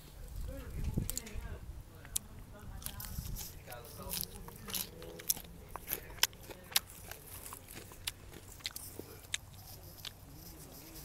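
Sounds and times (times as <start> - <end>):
person chewing crunchy leaves: 2.1 - 11.0.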